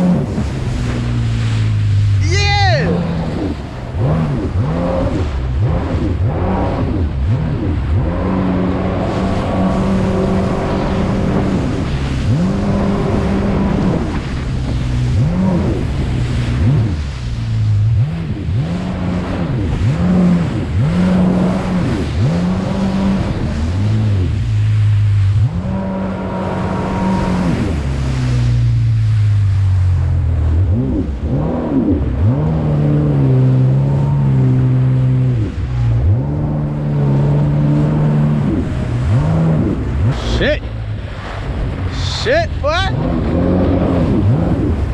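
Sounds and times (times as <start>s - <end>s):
jet ski engine: 0.0s - 44.9s
water noise: 0.0s - 44.9s
wind: 0.0s - 44.9s.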